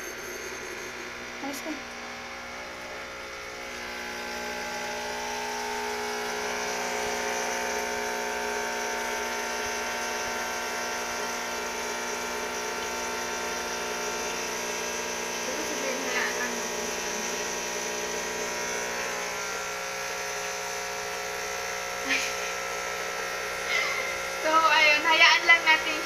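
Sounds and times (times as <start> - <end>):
espresso machine pump buzzing: 0.0 - 26.0.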